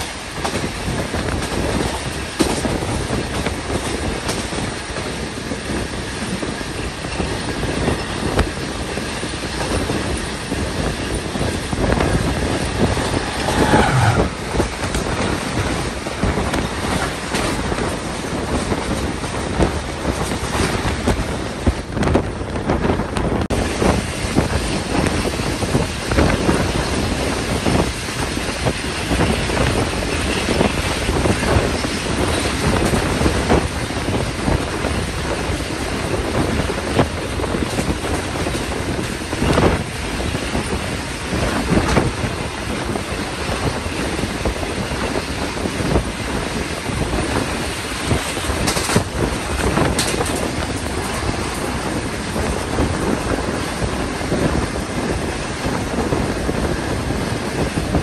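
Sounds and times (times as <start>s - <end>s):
clacks over rail joints: 0.0s - 58.0s
train wheels rumbling on rail: 0.0s - 58.0s
wind noise on microphone: 0.0s - 58.0s.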